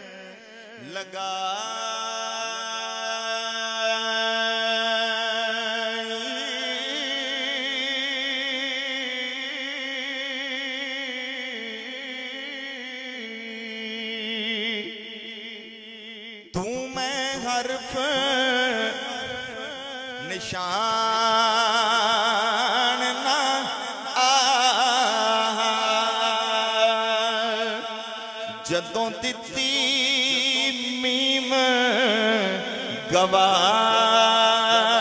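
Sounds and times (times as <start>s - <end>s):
man singing with vibrato: 0.0s - 35.0s.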